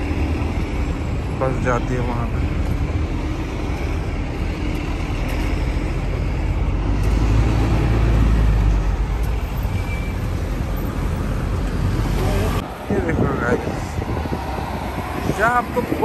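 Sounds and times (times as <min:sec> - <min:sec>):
bus diesel engine rumbling: 0:00.0 - 0:16.0
cars passing: 0:00.0 - 0:16.0.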